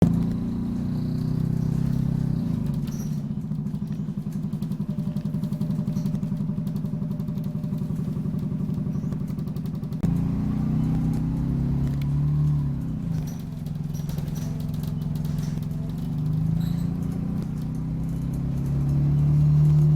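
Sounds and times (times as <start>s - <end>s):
bus diesel engine running: 0.0s - 19.9s.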